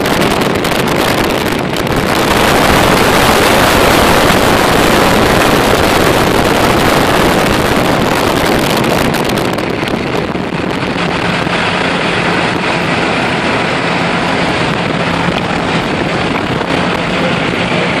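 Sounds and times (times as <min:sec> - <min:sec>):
low steady hum: 0:00.0 - 0:18.0
wind rush and road noise: 0:00.0 - 0:18.0.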